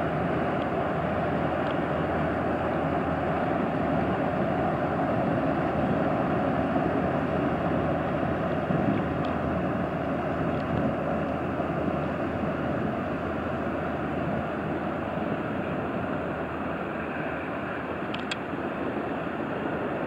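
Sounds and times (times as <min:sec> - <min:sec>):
rush of bow wave: 0:00.0 - 0:20.0
ship diesel engines droning: 0:00.0 - 0:20.0.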